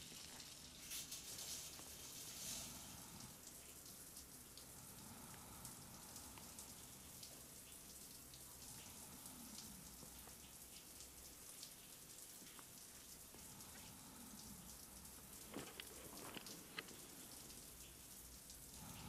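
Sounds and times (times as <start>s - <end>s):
soft hiss: 0.0s - 19.0s
tiny scattered ticks: 0.0s - 19.0s.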